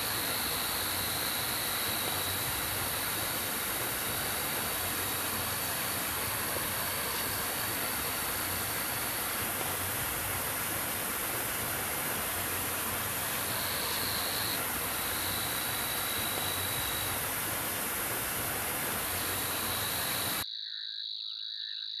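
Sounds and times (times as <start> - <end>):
stream running over rock: 0.0 - 20.4.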